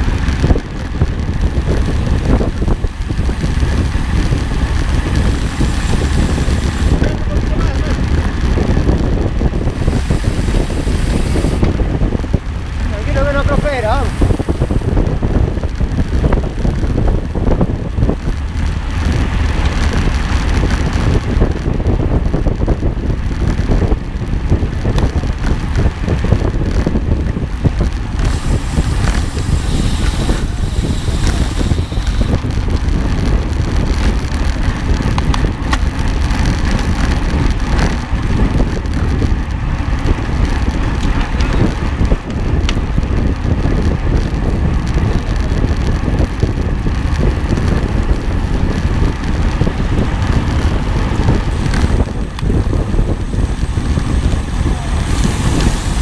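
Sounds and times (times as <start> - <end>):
vehicle rumble: 0.0 - 56.0
wind noise: 0.0 - 56.0.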